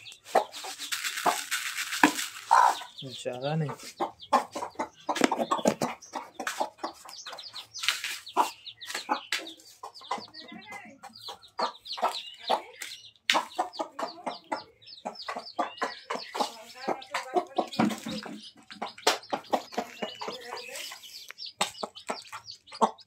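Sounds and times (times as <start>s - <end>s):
chicks peeping: 0.0s - 23.0s
hen clucking: 0.0s - 23.0s.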